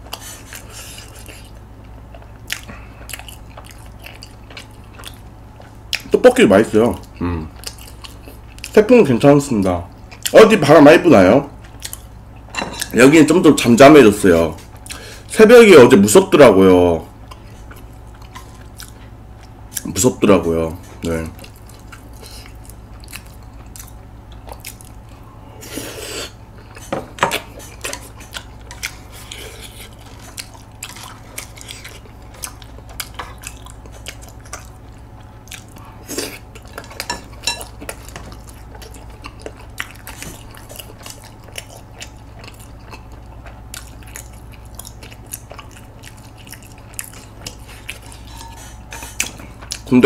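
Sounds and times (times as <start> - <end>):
chewing chewy rice cakes: 0.0 - 50.0.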